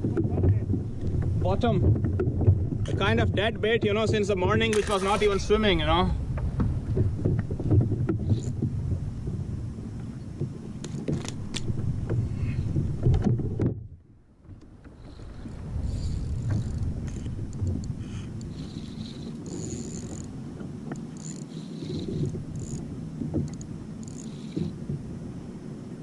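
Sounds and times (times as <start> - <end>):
water noise: 0.0 - 26.0
wind noise on microphone: 0.0 - 26.0.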